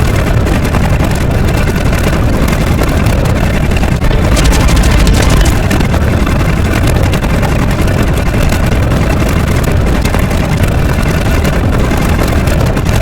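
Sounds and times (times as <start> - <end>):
engine-like rumble: 0.0 - 13.0.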